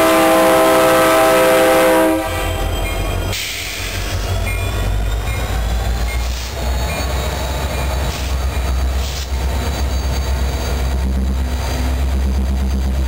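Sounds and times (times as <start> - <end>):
diesel locomotives rumbling past: 0.0 - 13.0.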